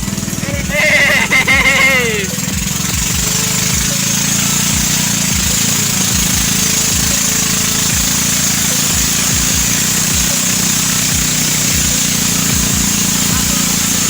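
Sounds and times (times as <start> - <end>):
boat engine droning: 0.0 - 14.0
steady hiss: 0.0 - 14.0.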